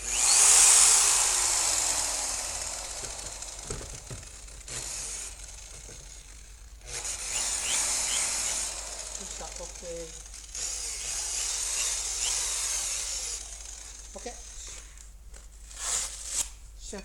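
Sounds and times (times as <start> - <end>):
electric car polisher buzzing: 0.0 - 14.9.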